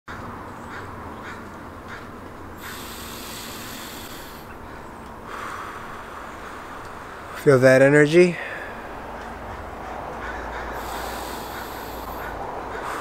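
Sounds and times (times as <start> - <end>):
bird calling: 0.1 - 13.0.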